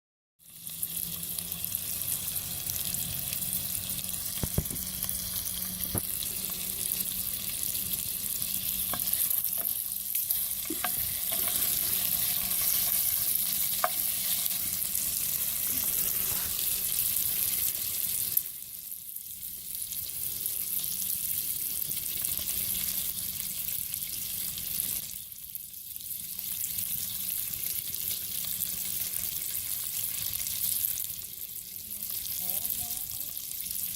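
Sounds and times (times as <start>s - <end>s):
food sizzling in a pan: 0.4s - 33.9s.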